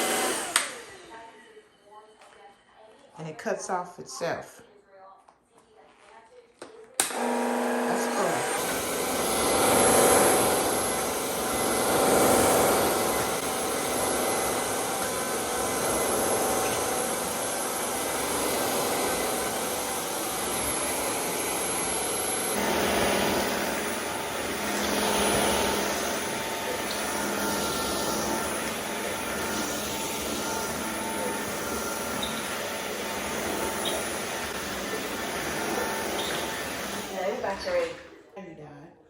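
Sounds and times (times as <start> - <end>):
floor vacuum whirring: 0.0 - 3.5, 5.6 - 38.4.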